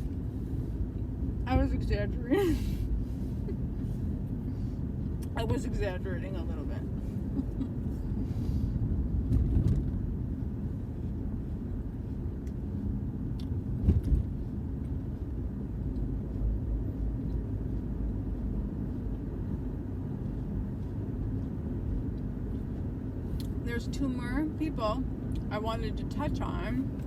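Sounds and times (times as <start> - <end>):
car rumble from inside cabin: 0.0 - 27.0.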